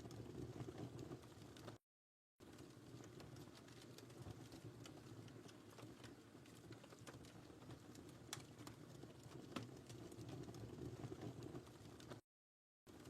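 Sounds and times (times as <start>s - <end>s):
faint wood fire crackling: 0.0s - 1.8s, 2.4s - 12.3s.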